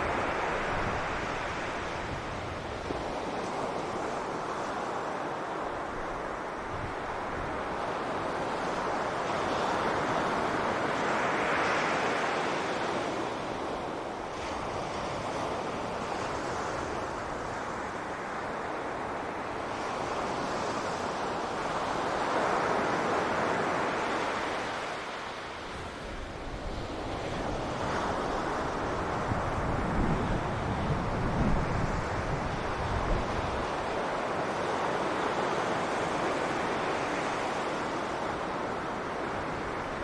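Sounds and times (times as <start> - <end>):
ocean waves breaking on beach: 0.0 - 40.0
wind noise on microphone: 0.0 - 40.0.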